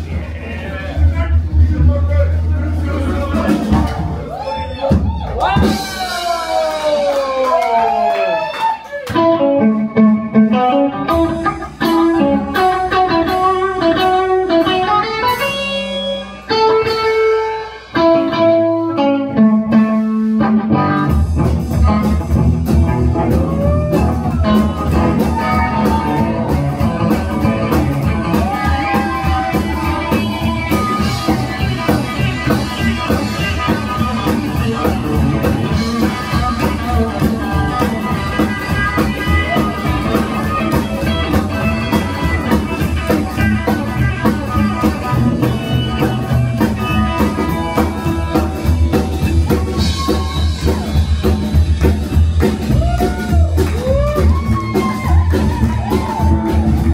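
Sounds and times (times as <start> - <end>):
upright bass: 0.0 - 8.1, 9.1 - 56.9
drums with driving beat: 0.0 - 56.9
electric guitar lead lines: 9.1 - 56.9.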